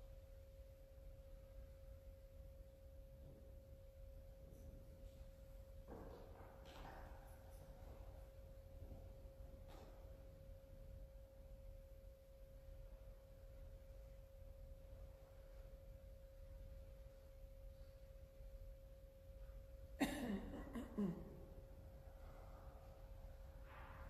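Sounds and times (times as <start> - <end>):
faint steady pure tone: 0.0 - 5.9, 7.0 - 24.0.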